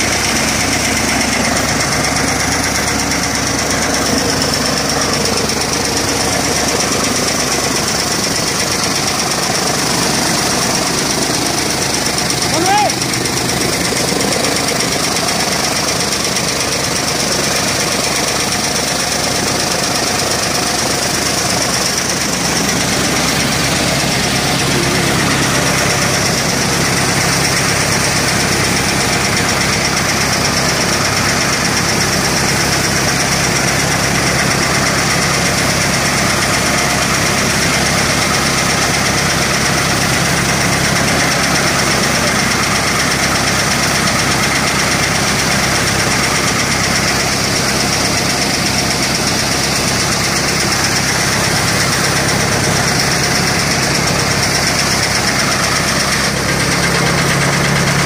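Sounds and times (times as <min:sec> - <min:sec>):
tractor engine drone: 0:00.0 - 0:58.0.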